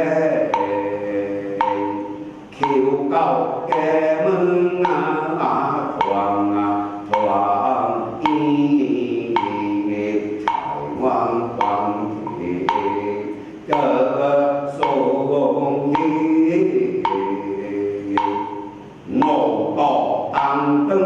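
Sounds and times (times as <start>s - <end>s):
wood block strikes: 0.0s - 20.9s.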